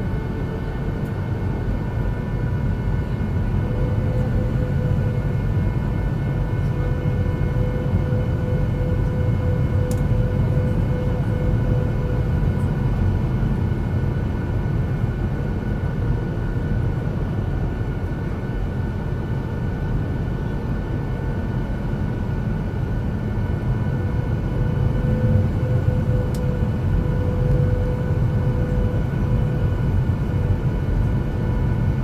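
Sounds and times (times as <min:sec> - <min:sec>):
jet engine and airflow rumble: 0:00.0 - 0:32.0.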